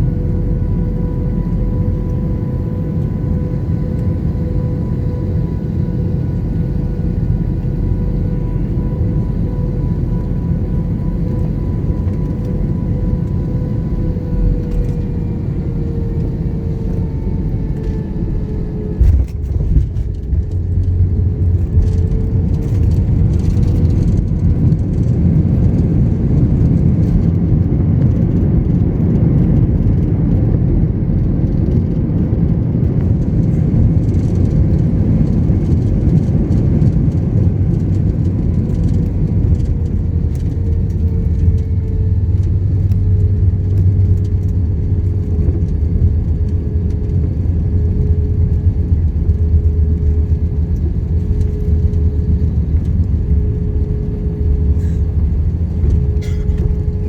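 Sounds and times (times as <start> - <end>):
jet engines whining: 0.0 - 43.2, 45.2 - 57.0.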